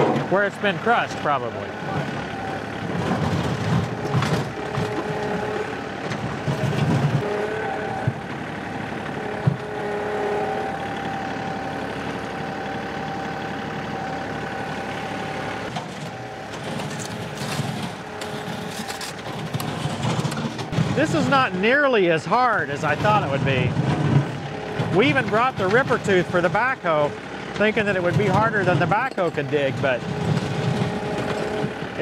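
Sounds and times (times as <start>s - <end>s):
loader bucket scraping dirt: 0.0s - 32.0s
tractor running under load: 0.0s - 32.0s.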